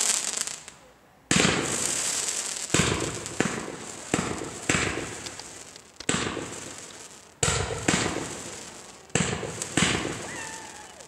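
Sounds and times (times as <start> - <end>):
fireworks bangs with echoing rumble: 0.0 - 11.0.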